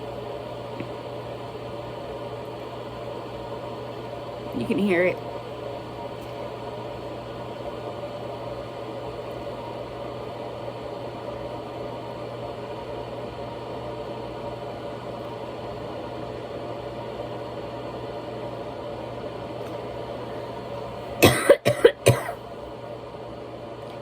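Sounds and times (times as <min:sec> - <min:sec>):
electric kettle rushing noise: 0:00.0 - 0:24.0.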